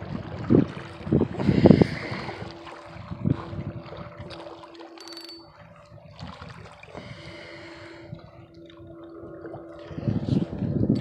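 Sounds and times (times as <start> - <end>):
faint steady hum: 0.0 - 11.0
water lapping at shore: 0.0 - 11.0.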